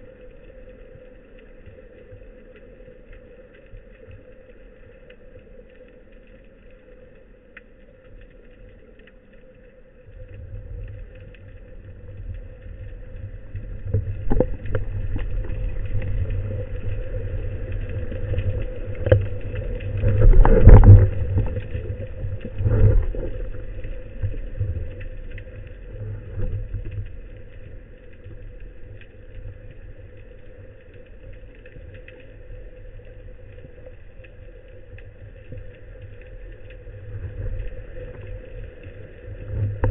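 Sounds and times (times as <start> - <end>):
faint steady hum: 0.0 - 39.9
underwater rumble of water: 0.0 - 39.9.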